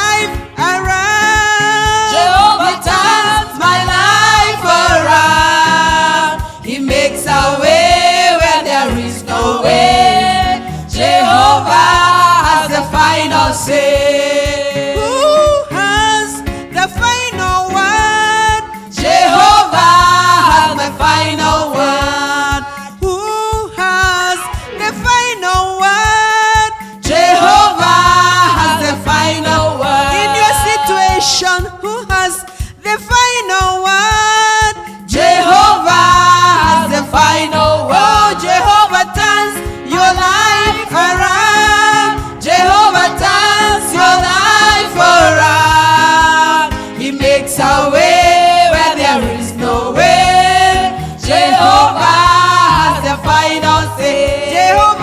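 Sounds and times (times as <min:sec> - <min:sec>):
gospel song with singing: 0:00.0 - 0:55.0.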